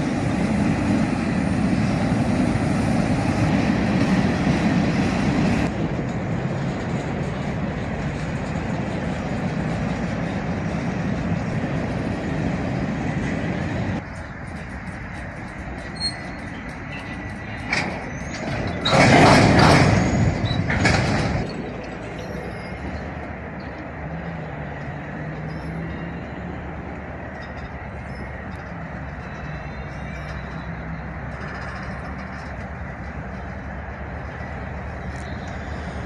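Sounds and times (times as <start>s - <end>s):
freight train rumbling on rails: 0.0s - 36.0s.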